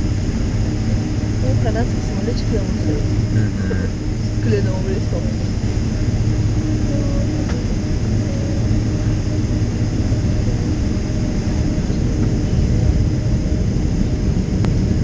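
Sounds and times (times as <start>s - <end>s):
aircraft cabin engine rumble: 0.0s - 15.0s
faint steady hum: 0.0s - 15.0s.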